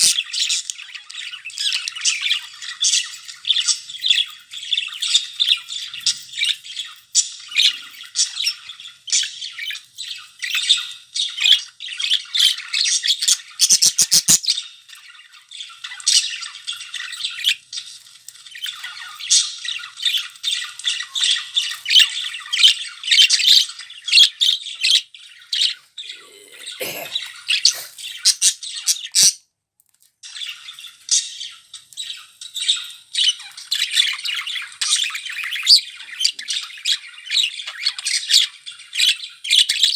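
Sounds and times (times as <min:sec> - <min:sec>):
budgerigars chattering: 0:00.0 - 0:17.9, 0:18.5 - 0:29.4, 0:30.3 - 0:39.9.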